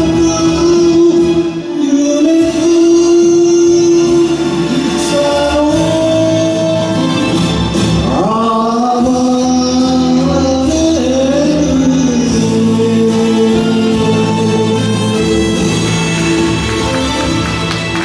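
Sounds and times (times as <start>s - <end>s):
karaoke backing track: 0.0s - 18.0s.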